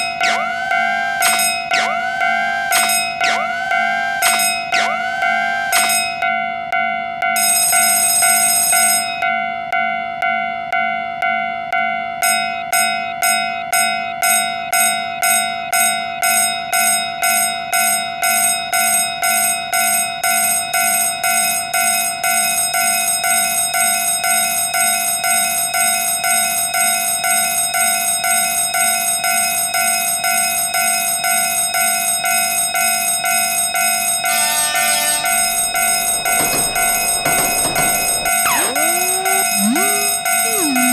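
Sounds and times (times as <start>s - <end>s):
level crossing warning bell: 0.0s - 9.4s, 10.2s - 40.9s.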